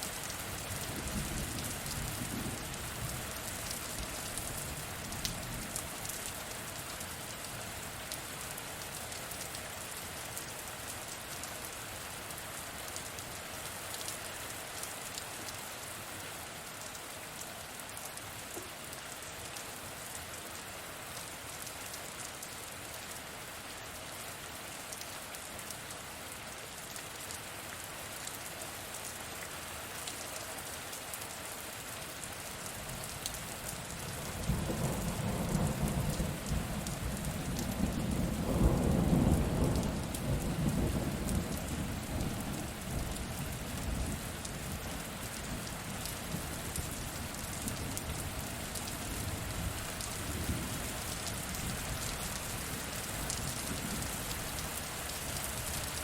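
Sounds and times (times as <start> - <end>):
rainfall hiss: 0.0 - 56.0.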